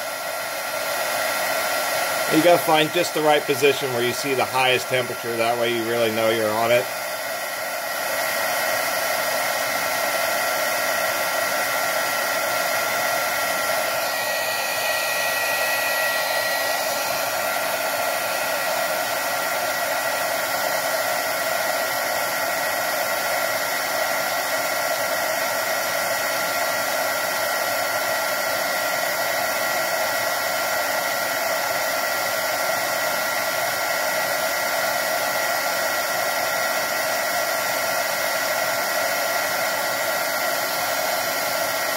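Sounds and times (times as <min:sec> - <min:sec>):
heat gun blowing air: 0:00.0 - 0:41.9.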